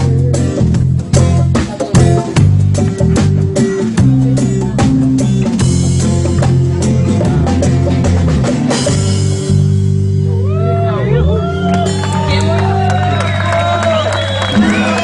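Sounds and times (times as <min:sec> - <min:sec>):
drum kit beat: 0:00.0 - 0:10.8, 0:11.5 - 0:15.0
bass guitar notes: 0:00.0 - 0:15.0
guitar: 0:00.0 - 0:15.0.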